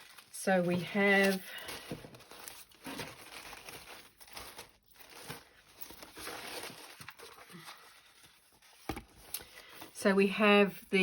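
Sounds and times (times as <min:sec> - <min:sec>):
tissue paper crinkling: 0:00.0 - 0:10.0.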